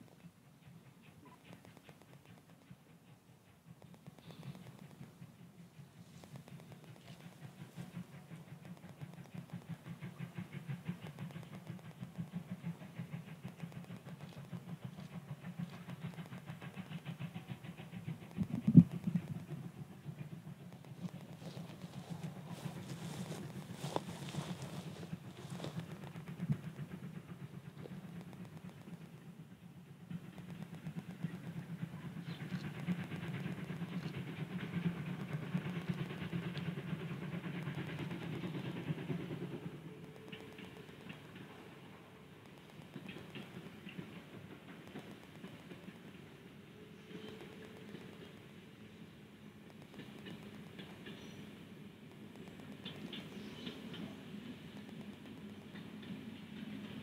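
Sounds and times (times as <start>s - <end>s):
distant steam locomotive chuffing: 0.0s - 57.0s.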